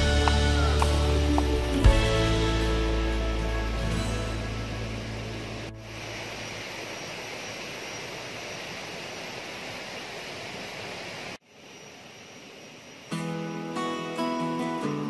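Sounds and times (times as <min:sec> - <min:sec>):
forest stream rushing: 0:00.0 - 0:15.0.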